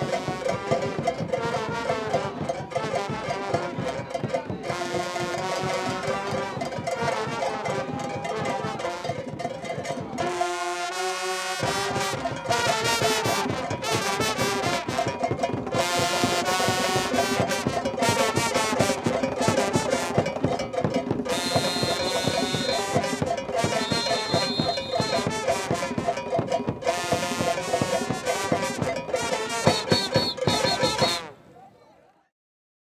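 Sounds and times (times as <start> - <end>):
brass section playing: 0.0 - 4.0, 4.6 - 9.2, 10.2 - 31.4
driving percussion: 0.0 - 10.8, 11.6 - 31.3.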